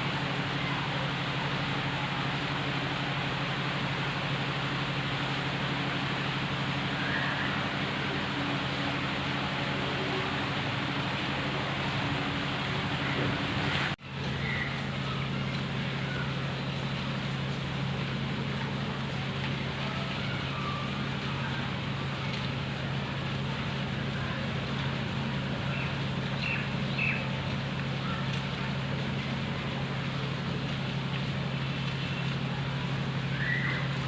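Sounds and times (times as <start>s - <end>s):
constant low hum: 0.0s - 34.0s
outdoor background noise: 0.0s - 34.0s.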